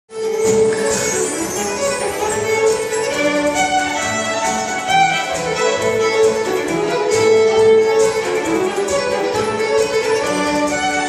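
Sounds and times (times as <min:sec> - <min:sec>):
orchestral bowed strings: 0:00.1 - 0:11.0
solo fiddle playing a reel: 0:00.1 - 0:11.0.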